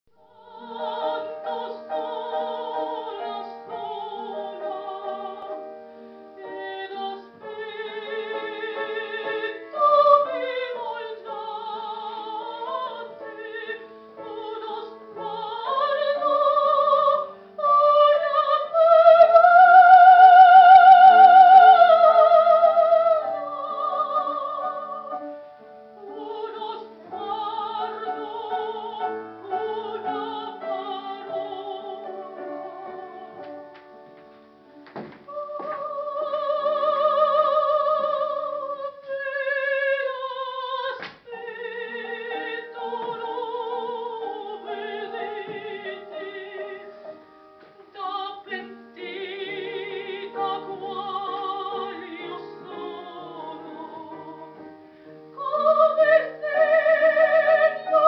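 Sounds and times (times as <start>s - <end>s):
operatic soprano singing: 0.2s - 33.8s, 35.0s - 58.0s.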